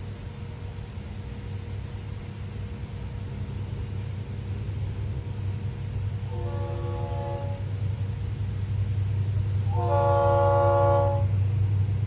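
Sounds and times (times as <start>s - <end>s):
diesel locomotives rumbling: 0.0s - 12.0s
faint steady hum: 0.0s - 12.0s.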